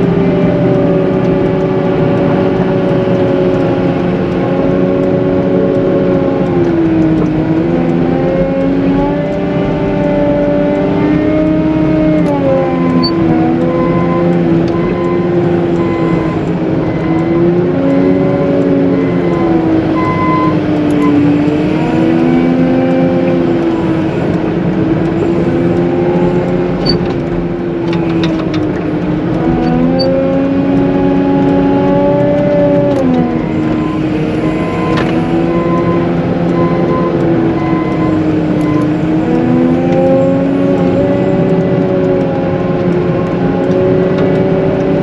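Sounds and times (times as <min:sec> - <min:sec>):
diesel engine working under load: 0:00.0 - 0:45.0.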